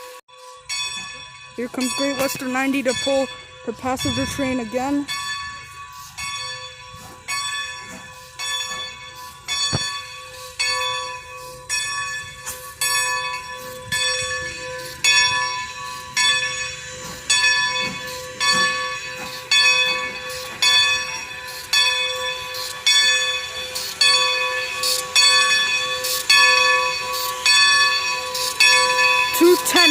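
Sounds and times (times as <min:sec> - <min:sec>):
steam locomotive bell ringing: 0:00.0 - 0:29.9.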